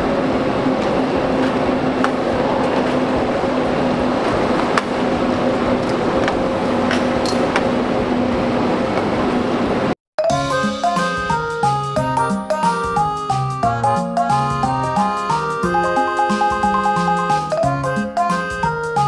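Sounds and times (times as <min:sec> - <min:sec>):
train platform hum and rushing: 0:00.0 - 0:10.0, 0:10.6 - 0:18.9.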